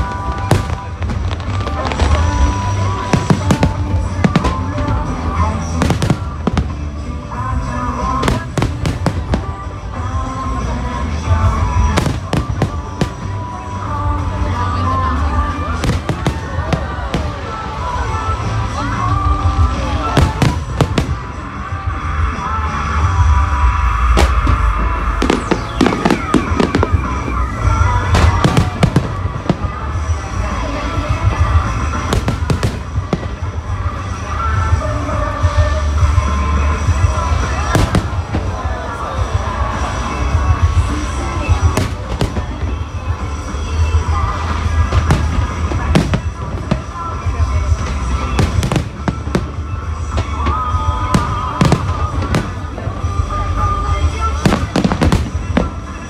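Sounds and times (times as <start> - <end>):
fireworks bursting: 0.0 - 56.0
music playing: 0.0 - 56.0.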